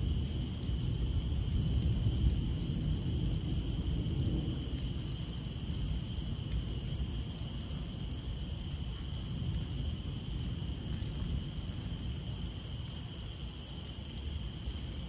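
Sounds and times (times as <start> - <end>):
heavy rain falling: 0.0 - 12.3.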